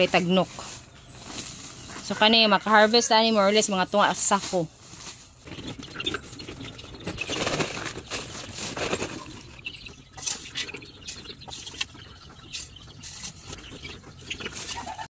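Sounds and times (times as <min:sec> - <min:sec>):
litter rustling and pattering: 0:00.0 - 0:15.0.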